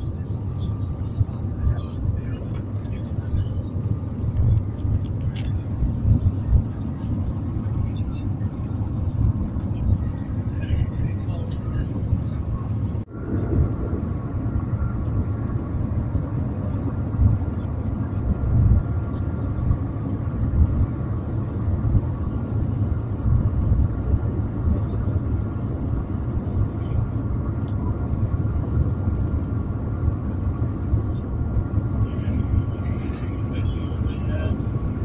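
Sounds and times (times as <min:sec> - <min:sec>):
faint steady tones: 0:00.0 - 0:35.0
train cabin rumble: 0:00.0 - 0:35.0.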